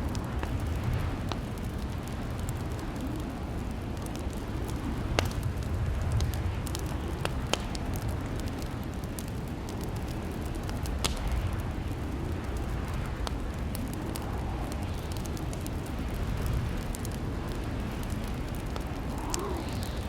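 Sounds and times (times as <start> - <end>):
fire burning rumble: 0.0 - 20.0
fire popping and snapping: 0.0 - 20.0.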